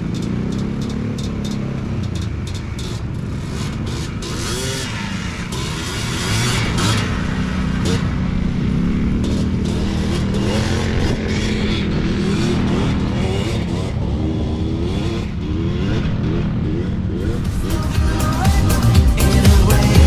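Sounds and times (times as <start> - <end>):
quad engines revving: 0.0 - 20.0.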